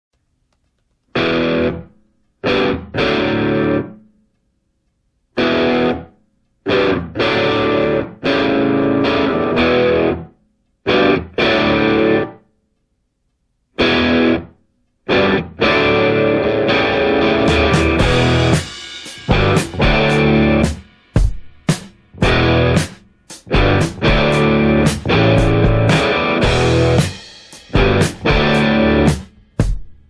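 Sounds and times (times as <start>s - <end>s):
distorted electric guitar chords: 1.1s - 4.0s, 5.4s - 12.4s, 13.8s - 21.3s, 22.1s - 29.4s.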